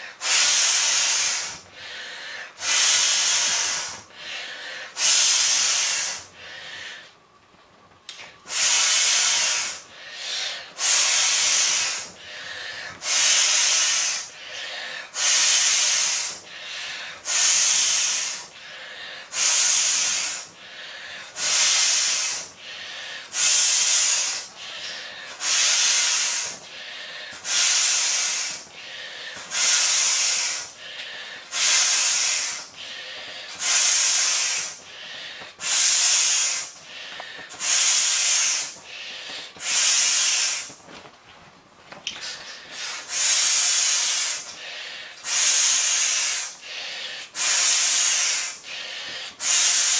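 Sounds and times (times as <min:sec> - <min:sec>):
breath hissing through valve: 0:00.0 - 0:07.2, 0:08.1 - 0:40.8, 0:42.1 - 0:49.9
breath intake: 0:00.0 - 0:07.2, 0:08.1 - 0:40.8, 0:42.1 - 0:49.9.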